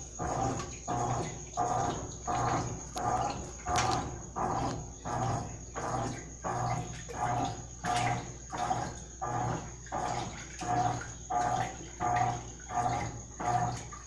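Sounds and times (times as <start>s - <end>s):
washing machine agitating: 0.0s - 14.0s
water sloshing: 0.0s - 14.0s.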